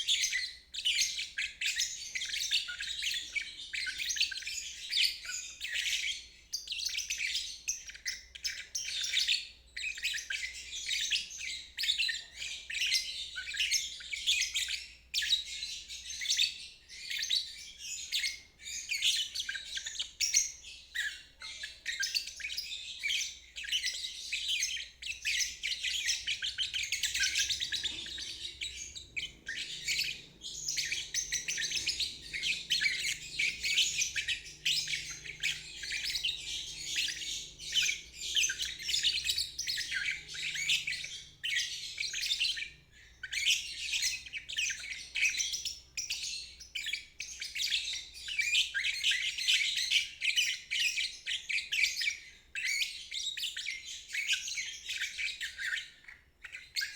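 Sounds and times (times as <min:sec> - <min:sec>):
lovebird twittering: 0:00.0 - 0:56.9.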